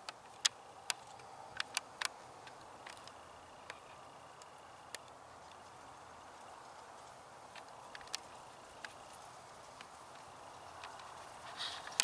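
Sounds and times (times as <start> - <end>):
sharp clicks and ticks: 0.0 - 5.8, 7.5 - 12.0.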